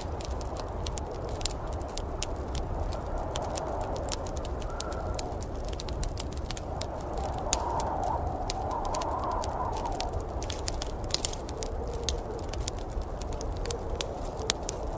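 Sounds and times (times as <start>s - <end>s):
low rumble and hiss of flames: 0.0s - 14.9s
wood fire crackling and popping: 0.0s - 14.9s.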